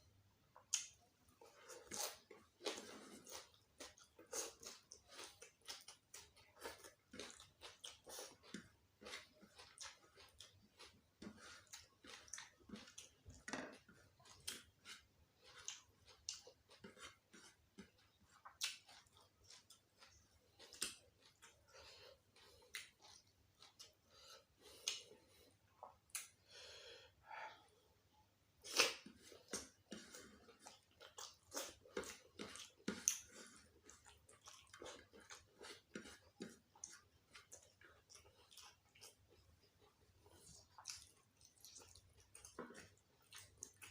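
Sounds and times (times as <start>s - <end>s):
person chewing: 0.6s - 27.0s, 28.6s - 43.9s.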